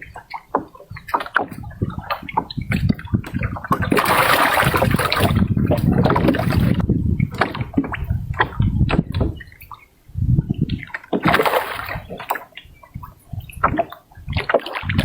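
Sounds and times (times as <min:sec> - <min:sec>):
rush of water: 0:00.0 - 0:15.0
water splashing and sloshing: 0:00.0 - 0:15.0.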